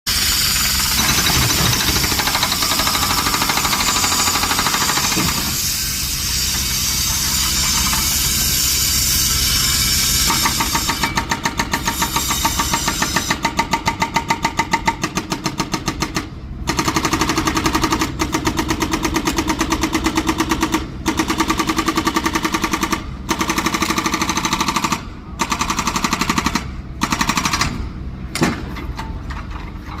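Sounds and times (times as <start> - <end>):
excavator running with a hiss: 0.1 - 30.0.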